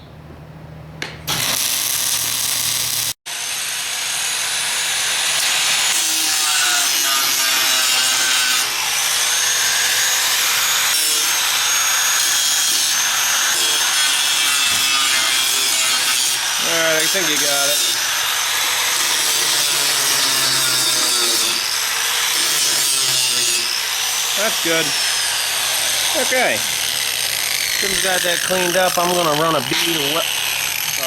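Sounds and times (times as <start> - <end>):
angle grinder grinding steel: 1.3 - 31.0.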